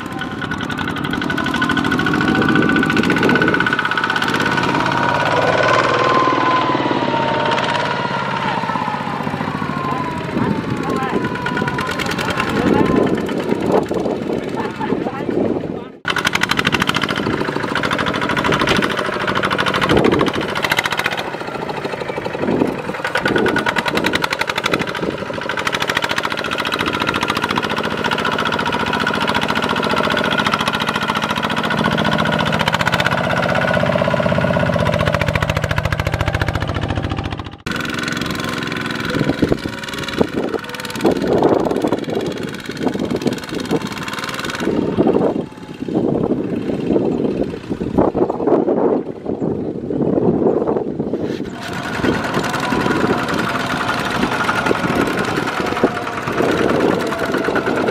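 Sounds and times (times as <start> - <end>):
diesel tractor engines running: 0.0 - 57.9.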